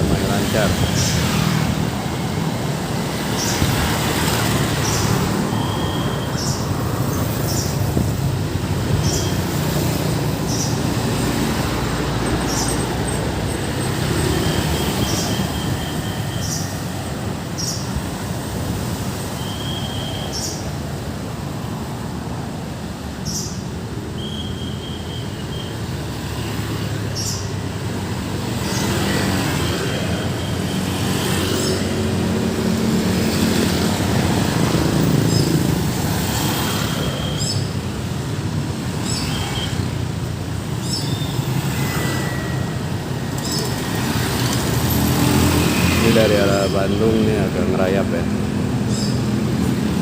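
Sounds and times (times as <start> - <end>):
road traffic passing: 0.0 - 50.0.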